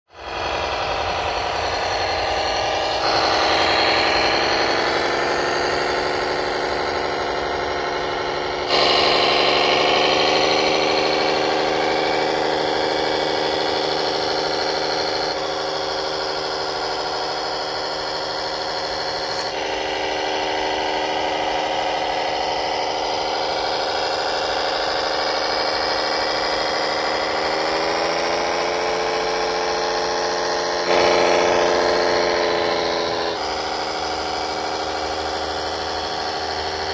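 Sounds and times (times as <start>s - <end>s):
model tractor drive whine: 0.0s - 36.9s.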